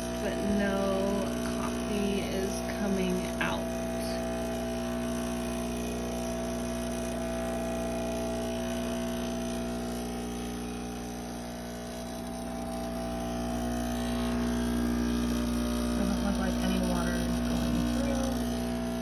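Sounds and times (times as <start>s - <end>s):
espresso machine pump humming: 0.0s - 19.0s.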